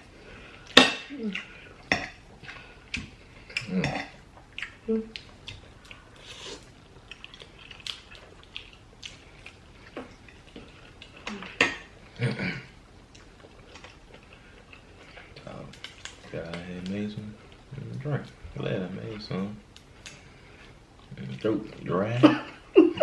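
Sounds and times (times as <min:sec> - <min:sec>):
chewing: 0:00.0 - 0:22.6.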